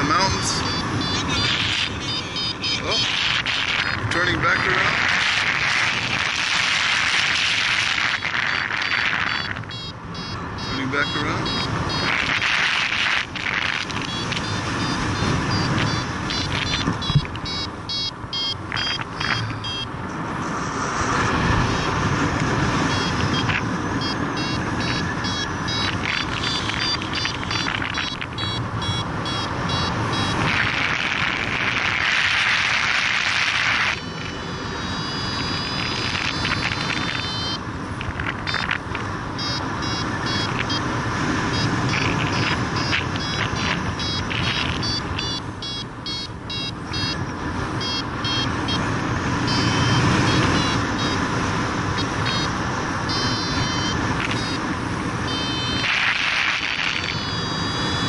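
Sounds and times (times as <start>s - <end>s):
variometer beeping: 0.0s - 20.5s, 21.2s - 58.0s.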